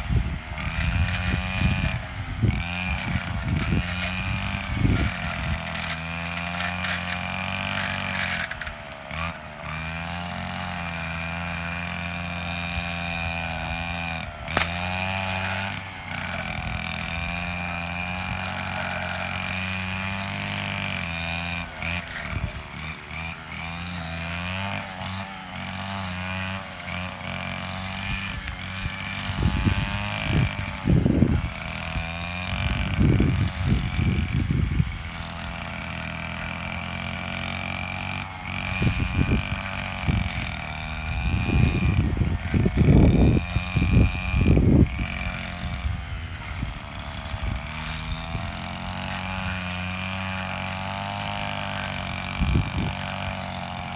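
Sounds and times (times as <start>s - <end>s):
brush cutter engine running: 0.0s - 53.9s.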